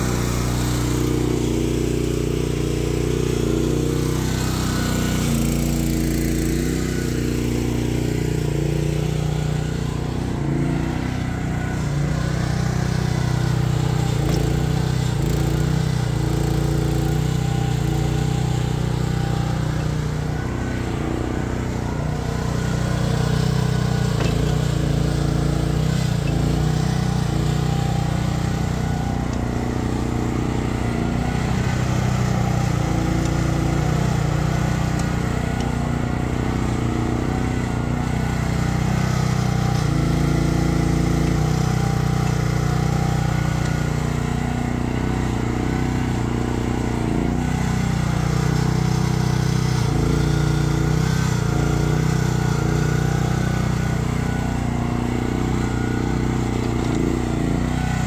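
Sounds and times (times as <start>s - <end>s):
mini excavator engine running: 0.0s - 58.0s.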